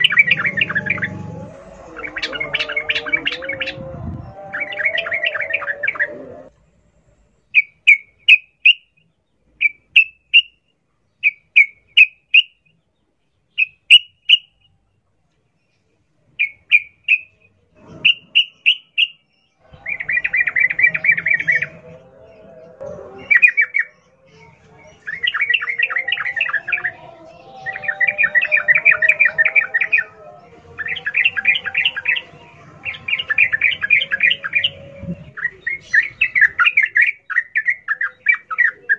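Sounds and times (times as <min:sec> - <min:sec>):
bulbul singing: 0:00.0 - 0:06.5, 0:07.4 - 0:14.9, 0:16.4 - 0:38.9
softer background bird calls: 0:00.0 - 0:38.9.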